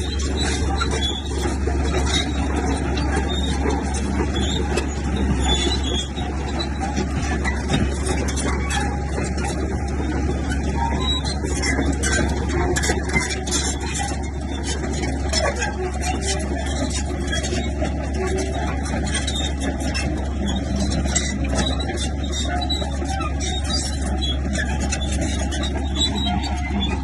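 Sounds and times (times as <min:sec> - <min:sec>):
bulldozer engine droning: 0:00.0 - 0:27.0.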